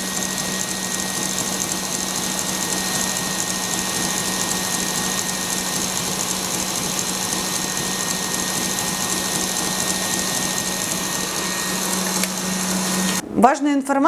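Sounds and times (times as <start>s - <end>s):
stand mixer motor humming: 0.0s - 13.2s.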